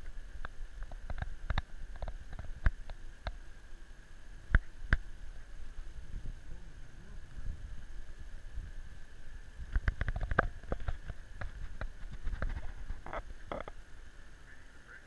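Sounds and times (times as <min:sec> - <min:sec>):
lab equipment hum: 0:00.0 - 0:15.0.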